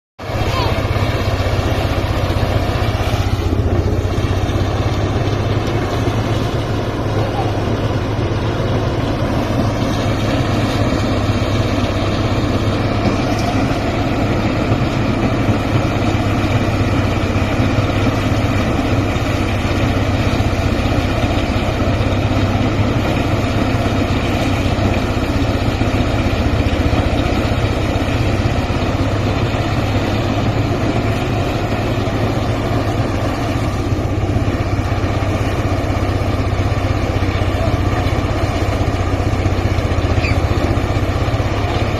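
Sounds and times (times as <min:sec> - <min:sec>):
harvester engine droning: 0:00.2 - 0:41.9.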